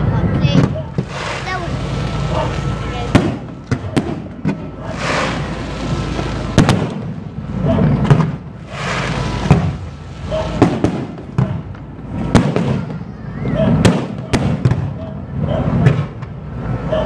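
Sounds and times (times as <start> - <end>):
fireworks bangs: 0.3 - 16.9
fireworks hissing: 0.4 - 14.9.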